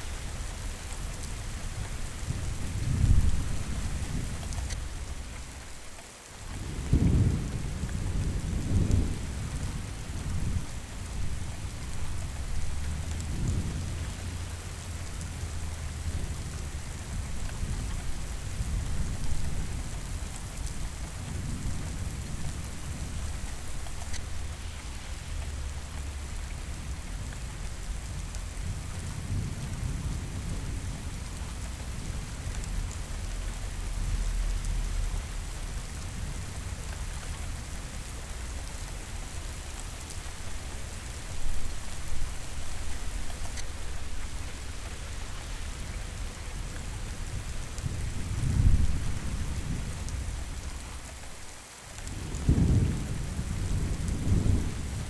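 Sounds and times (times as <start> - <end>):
steady rain falling: 0.0 - 55.0
thunder rumbling: 6.6 - 55.0.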